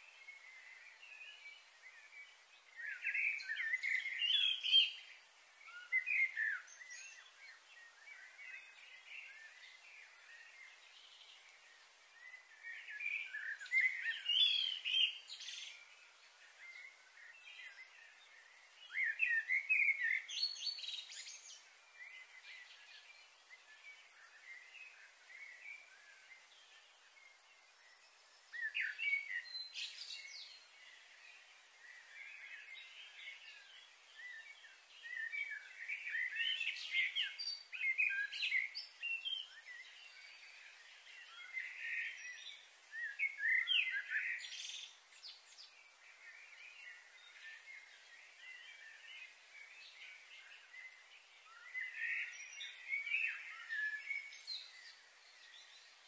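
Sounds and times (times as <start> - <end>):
faint high hiss: 0.0 - 56.0.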